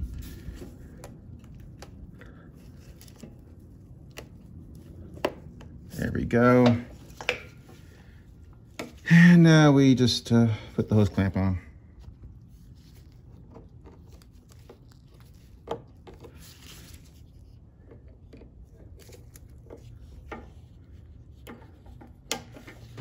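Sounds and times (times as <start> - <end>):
faint handling sounds: 0.0 - 23.0.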